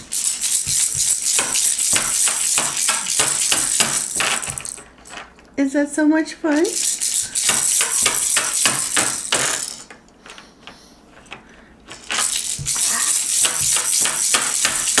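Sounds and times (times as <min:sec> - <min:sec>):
baby rattling hard object: 0:00.0 - 0:05.3, 0:06.5 - 0:10.4, 0:11.9 - 0:15.0.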